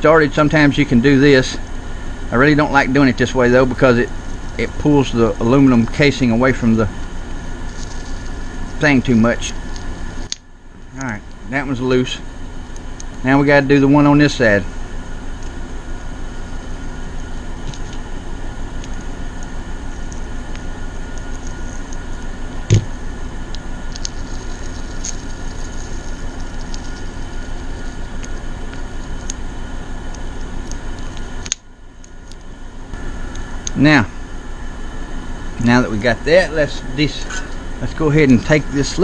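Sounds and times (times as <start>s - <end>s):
air conditioners humming: 0.0s - 39.0s
faint handling ticks: 0.4s - 34.0s.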